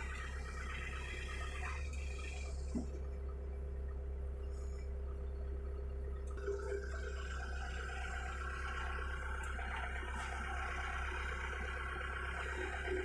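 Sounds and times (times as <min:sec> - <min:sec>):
excavator engine hum: 0:00.0 - 0:13.0.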